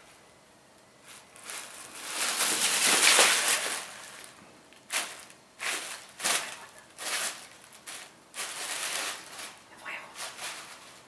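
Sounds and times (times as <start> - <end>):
tissue paper rustling: 1.0 - 11.0.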